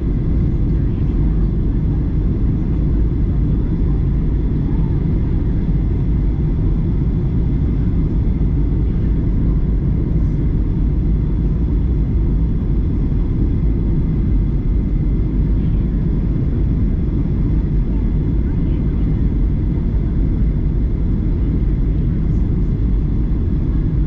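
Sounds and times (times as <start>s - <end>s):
airliner cabin engine rumble: 0.0s - 24.0s
faint steady whines: 0.0s - 24.0s.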